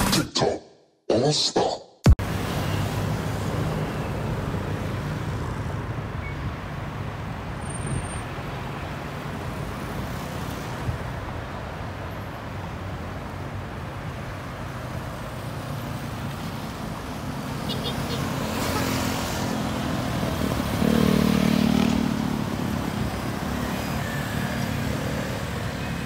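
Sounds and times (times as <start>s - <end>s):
cars and motorcycles driving past: 2.2s - 26.0s.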